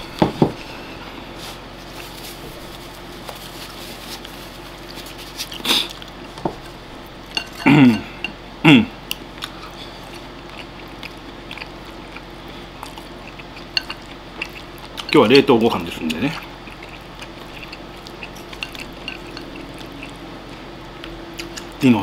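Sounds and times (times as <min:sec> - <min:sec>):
chewing: 0:03.2 - 0:08.4, 0:09.1 - 0:21.8.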